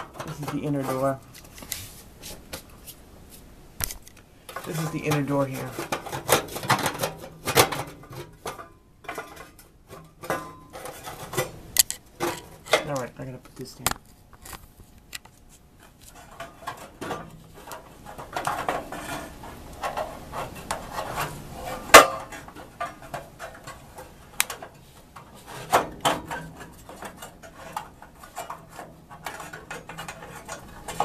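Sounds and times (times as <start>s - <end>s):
metal clinking and scraping: 0.0s - 2.9s, 3.8s - 31.0s.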